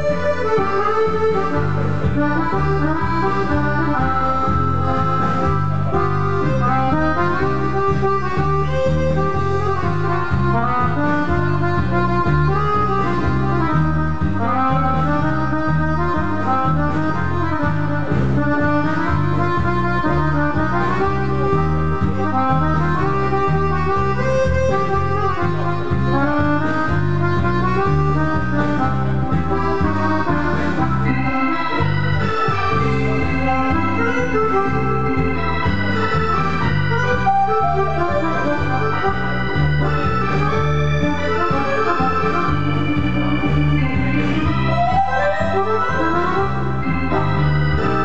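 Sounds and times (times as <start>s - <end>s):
accordion dance tune: 0.0s - 48.0s.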